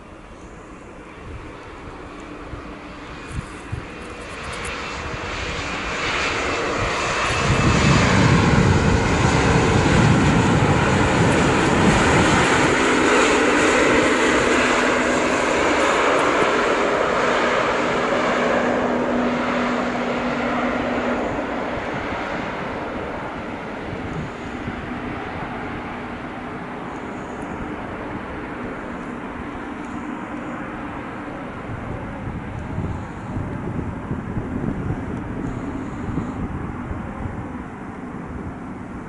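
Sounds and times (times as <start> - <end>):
jet engines passing: 0.0 - 39.0.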